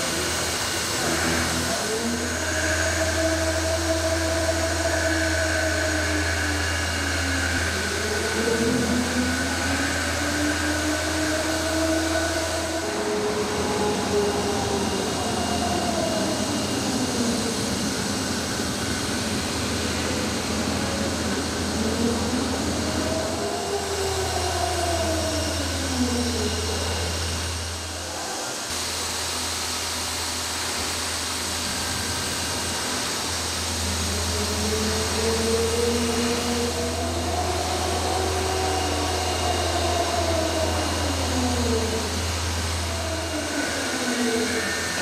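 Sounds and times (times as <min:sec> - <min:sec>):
machine hum and hiss: 0:00.0 - 0:45.0
whining tones: 0:00.0 - 0:45.0.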